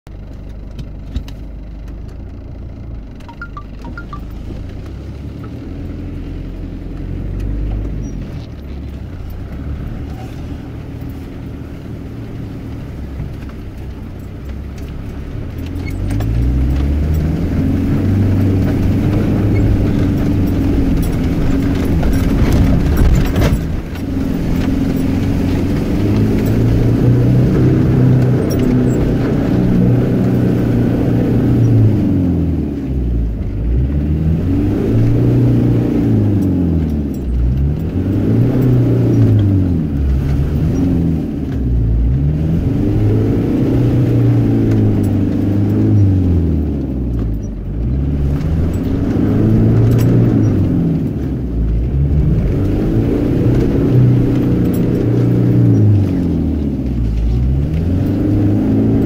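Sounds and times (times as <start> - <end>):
vehicle engine running: 0.1 - 59.0.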